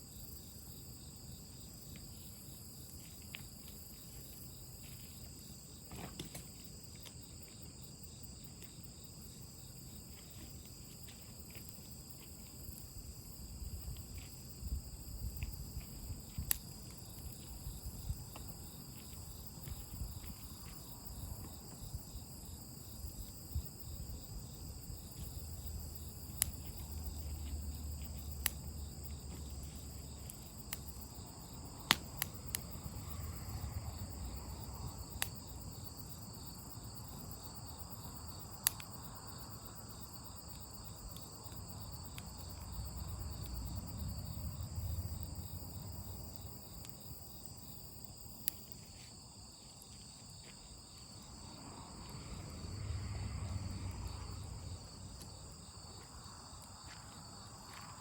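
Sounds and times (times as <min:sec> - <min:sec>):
insects chirping: 0:00.0 - 0:58.0
campfire rumbling and crackling: 0:00.2 - 0:49.1, 0:51.0 - 0:58.0.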